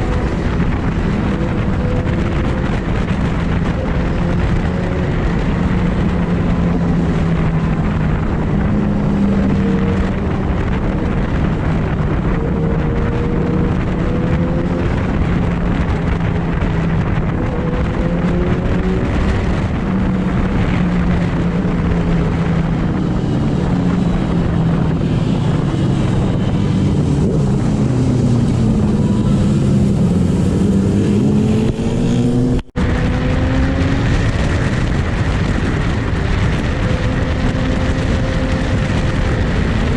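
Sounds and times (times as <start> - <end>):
motorcycle engines revving: 0.0 - 39.9
wind noise: 0.0 - 39.9.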